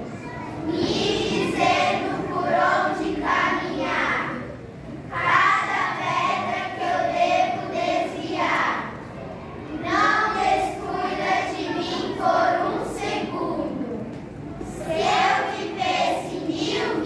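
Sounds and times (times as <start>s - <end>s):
children singing in unison: 0.6s - 4.5s, 5.1s - 9.0s, 9.8s - 13.7s, 14.6s - 17.0s.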